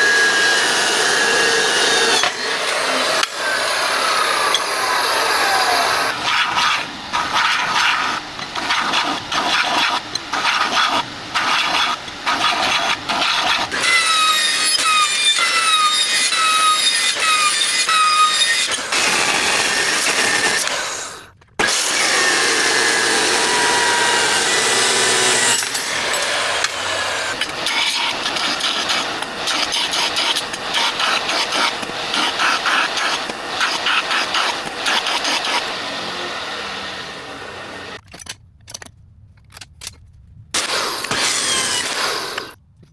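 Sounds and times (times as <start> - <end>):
power tool grinding steel: 0.0 - 38.0, 40.6 - 42.6.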